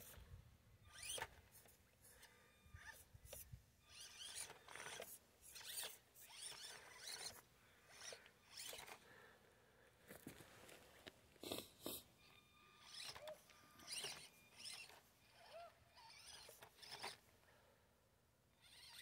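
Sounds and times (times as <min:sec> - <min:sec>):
small electric motor whining: 0:00.0 - 0:09.1, 0:11.4 - 0:17.4, 0:18.5 - 0:19.0.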